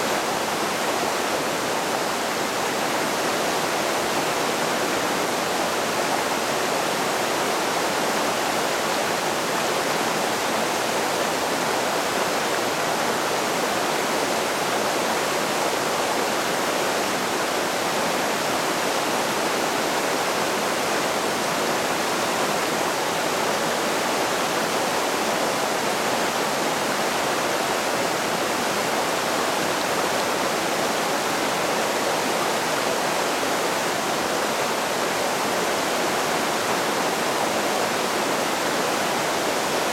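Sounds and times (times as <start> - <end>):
creek rushing over boulders: 0.0 - 39.9.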